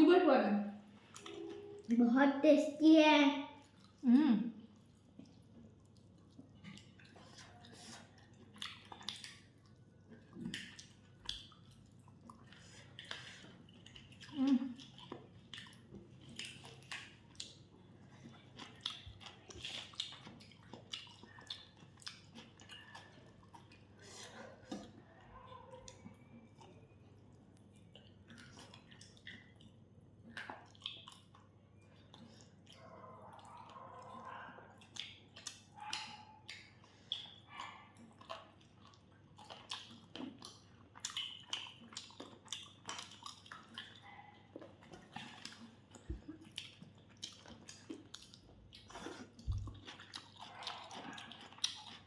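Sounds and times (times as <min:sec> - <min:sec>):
people chewing: 0:00.8 - 0:02.0, 0:03.6 - 0:52.0.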